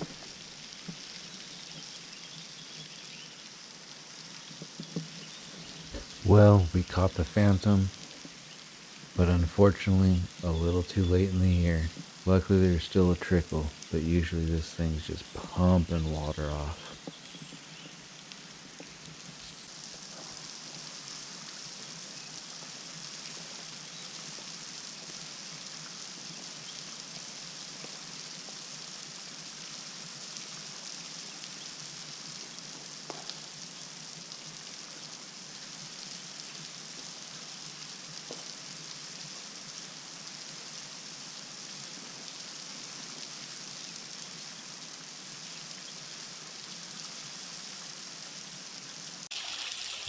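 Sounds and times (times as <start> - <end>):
waterfall trickling on rock: 0.0 - 45.5, 49.3 - 50.0.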